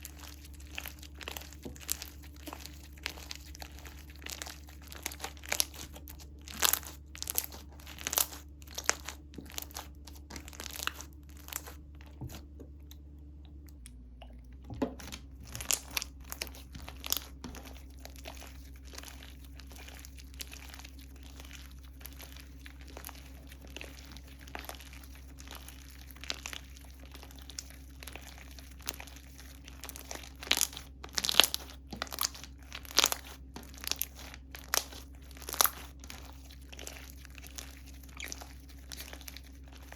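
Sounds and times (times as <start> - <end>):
slime crackling and popping: 0.0 - 12.8, 15.0 - 39.9.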